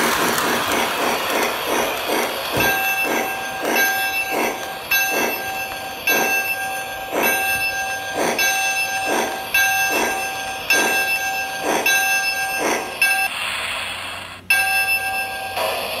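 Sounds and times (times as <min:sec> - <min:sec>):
model train whine: 0:00.0 - 0:16.0.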